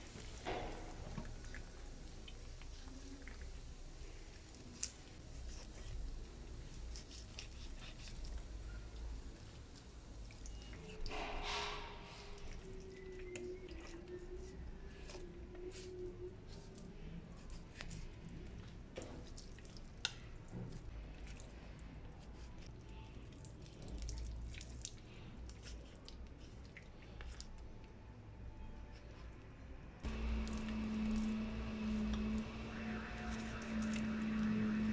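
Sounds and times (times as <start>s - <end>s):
wet squishes of meat: 0.0s - 28.0s, 30.0s - 34.9s.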